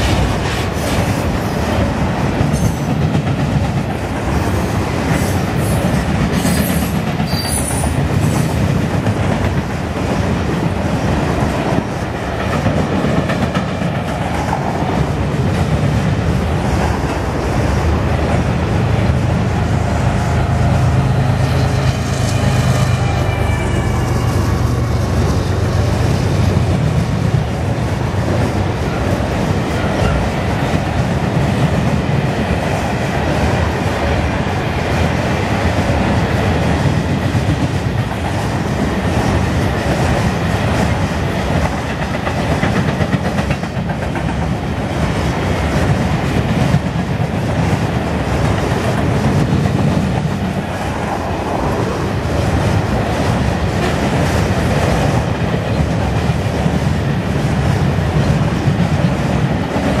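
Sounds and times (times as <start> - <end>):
freight train rumbling: 0.0 - 60.0.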